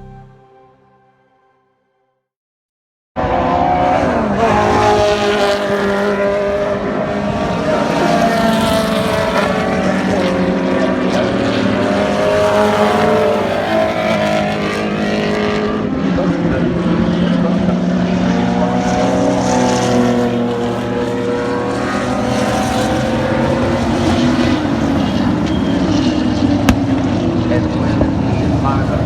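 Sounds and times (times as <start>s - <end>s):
race car engines running: 3.2s - 29.0s.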